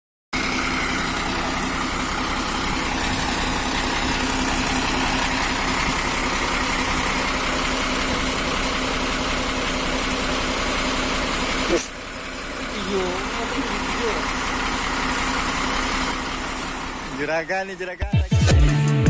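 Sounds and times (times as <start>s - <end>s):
diesel engine idling: 0.3s - 18.1s.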